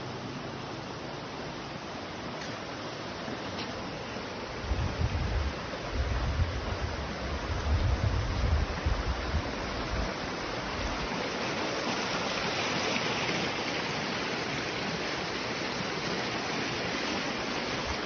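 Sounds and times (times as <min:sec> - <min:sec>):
water rushing in a stream: 0:00.0 - 0:18.0.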